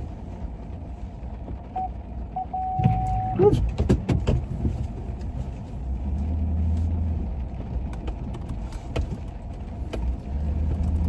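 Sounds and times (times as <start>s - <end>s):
truck engine and tyre rumble: 0.0s - 11.0s.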